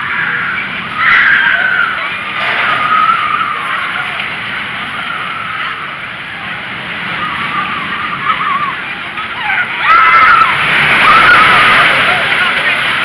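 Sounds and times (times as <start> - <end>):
roller coaster train roaring on track: 0.0 - 13.0.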